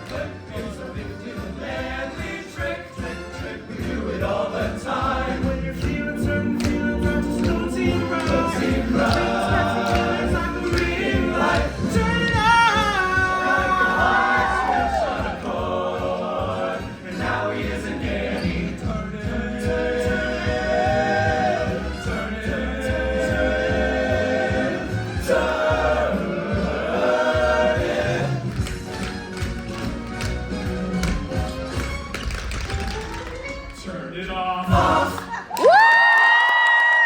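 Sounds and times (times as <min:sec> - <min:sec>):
choir singing with instruments: 0:00.0 - 0:29.2, 0:33.6 - 0:35.6.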